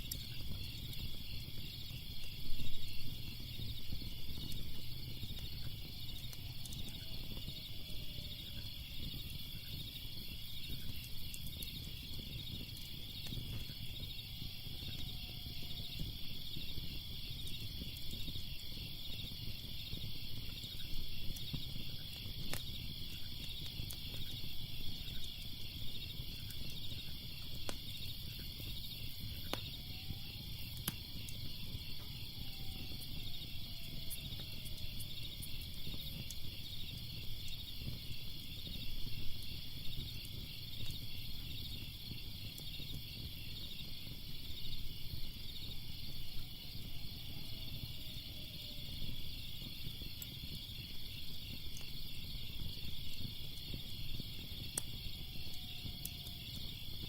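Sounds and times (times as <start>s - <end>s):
crickets chirping: 0.0s - 57.0s
fire crackling: 0.0s - 57.0s.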